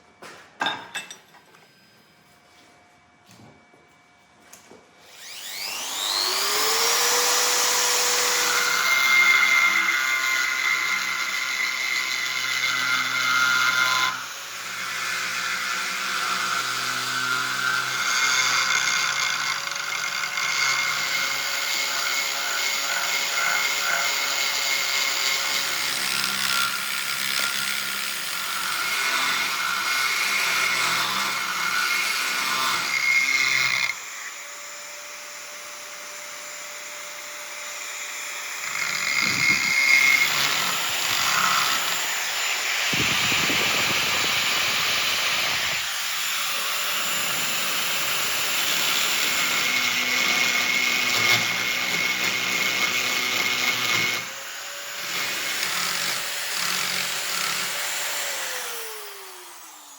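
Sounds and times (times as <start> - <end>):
power grinder grinding knife blade: 5.0 - 35.1, 37.1 - 59.9.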